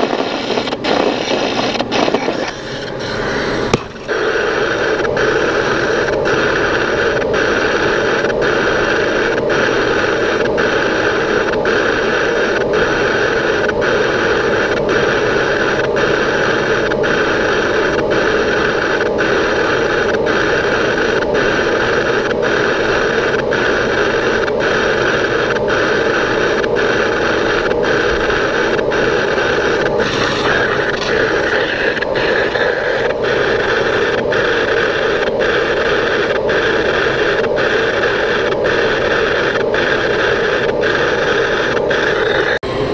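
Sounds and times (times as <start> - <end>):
boring machine cutting metal: 0.0 - 42.9.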